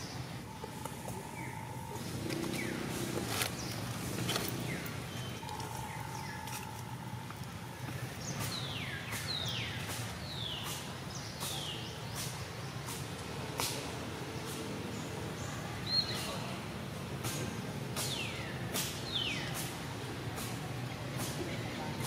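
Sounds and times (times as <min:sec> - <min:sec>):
outdoor ambience: 0:00.0 - 0:22.0.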